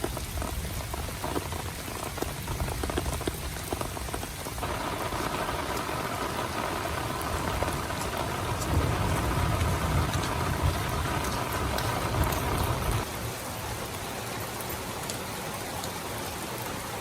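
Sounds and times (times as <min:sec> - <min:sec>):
heavy rain on a tent: 0:00.0 - 0:17.0.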